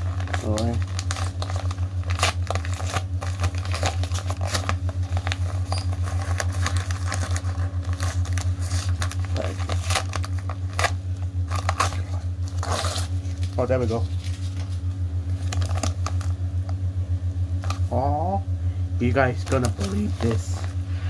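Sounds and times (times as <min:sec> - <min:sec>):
package wrapping crinkling: 0:00.0 - 0:16.8, 0:17.5 - 0:17.9, 0:19.3 - 0:20.9
steady low hum: 0:00.0 - 0:21.0.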